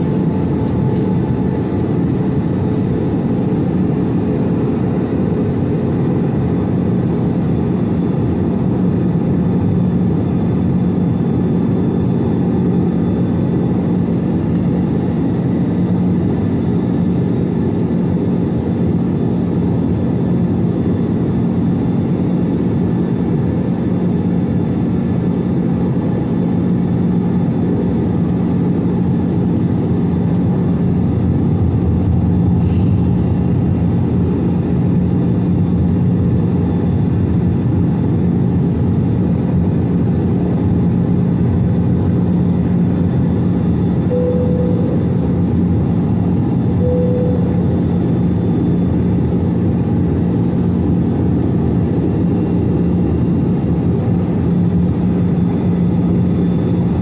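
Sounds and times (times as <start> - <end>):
constant low hum: 0.0 - 57.0
jet engine drone in cabin: 0.0 - 57.0.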